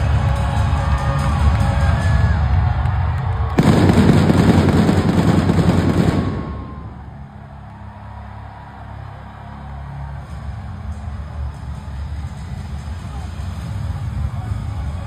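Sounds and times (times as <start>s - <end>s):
arena entrance music: 0.0s - 14.5s.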